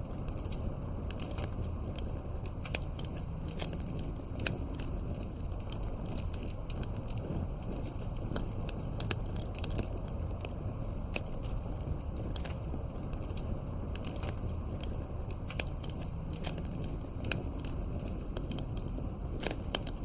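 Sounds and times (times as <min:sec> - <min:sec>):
campfire roar: 0:00.0 - 0:20.0
logs crackling and popping: 0:00.0 - 0:20.0.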